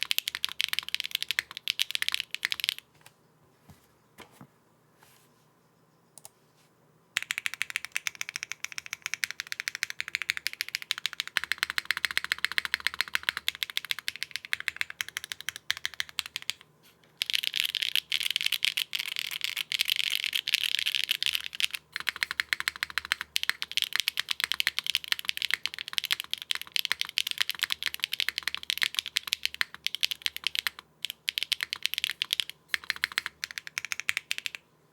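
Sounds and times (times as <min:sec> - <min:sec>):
mechanical keyboard typing: 0:00.0 - 0:02.8, 0:07.2 - 0:34.6.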